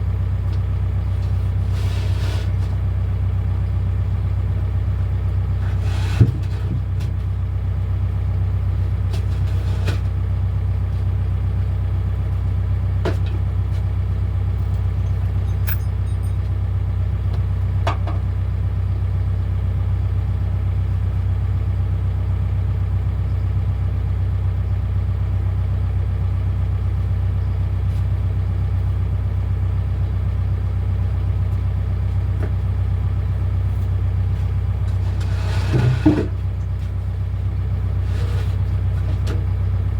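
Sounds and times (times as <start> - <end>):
excavator engine droning: 0.0 - 39.9.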